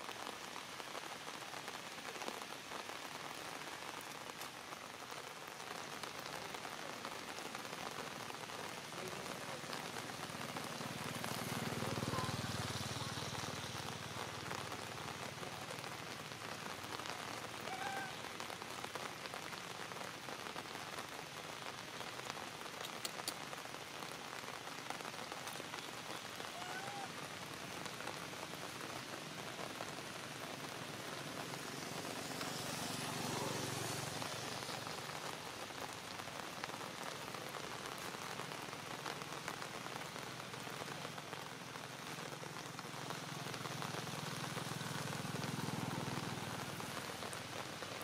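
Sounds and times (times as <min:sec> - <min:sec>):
rain hissing: 0:00.0 - 0:48.0.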